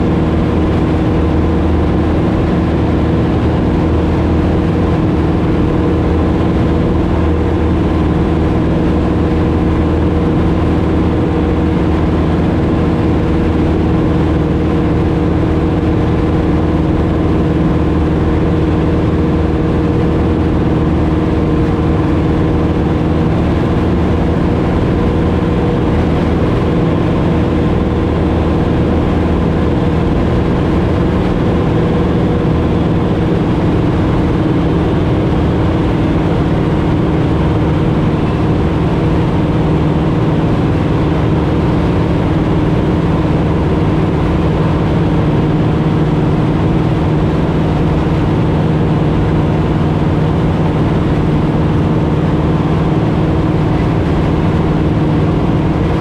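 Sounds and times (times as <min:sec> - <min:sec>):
propeller plane engine from cabin: 0:00.0 - 0:56.0.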